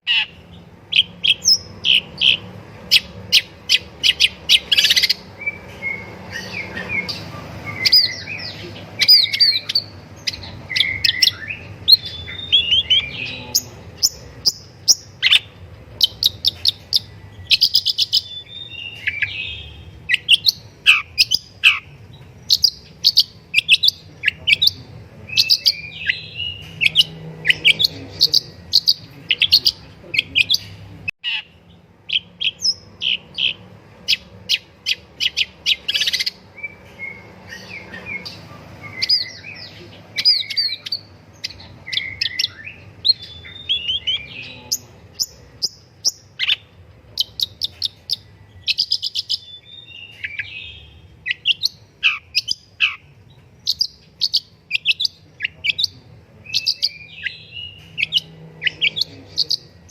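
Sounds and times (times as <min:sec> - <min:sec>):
shrike singing: 0:00.0 - 0:59.9.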